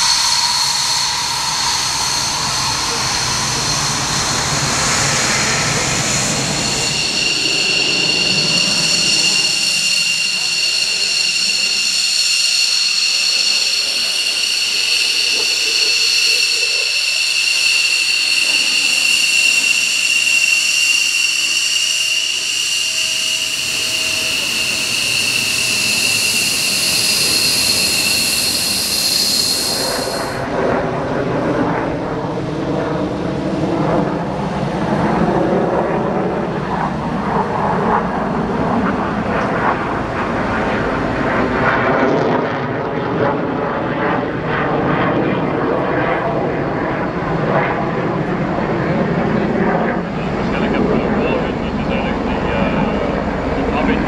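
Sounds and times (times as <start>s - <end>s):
deeper jet engine noise: 0.0s - 54.0s
jet engine shrill whine: 0.0s - 54.0s.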